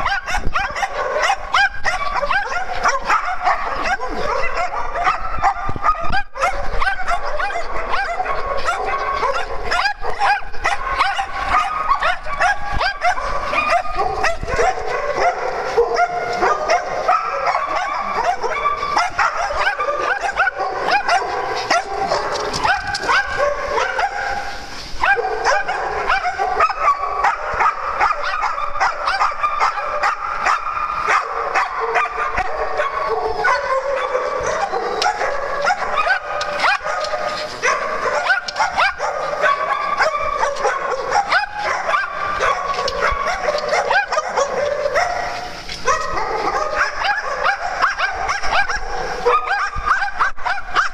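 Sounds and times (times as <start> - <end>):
dogs barking and yipping: 0.0 - 50.9.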